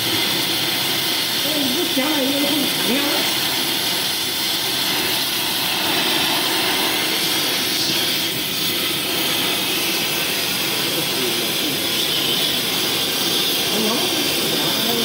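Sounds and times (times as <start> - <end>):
gas torch hissing roar: 0.0 - 15.0.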